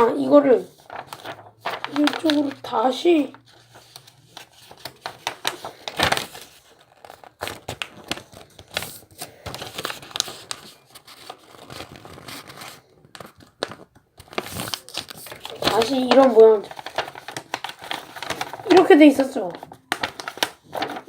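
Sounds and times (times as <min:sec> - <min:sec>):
paper rustling and crinkling: 0:00.0 - 0:21.0.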